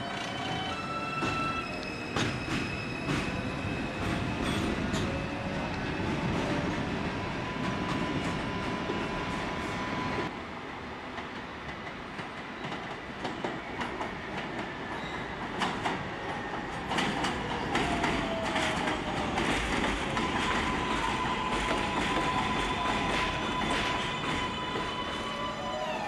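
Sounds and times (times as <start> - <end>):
subway train wheels clacking: 0.0 - 10.4, 11.0 - 26.0.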